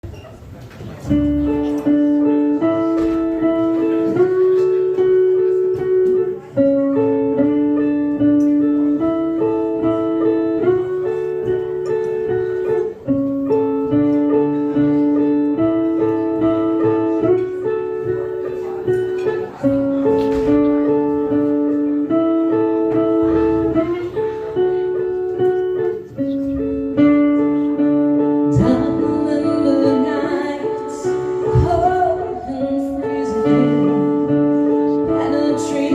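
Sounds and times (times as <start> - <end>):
instrumental music: 0.8 - 35.9.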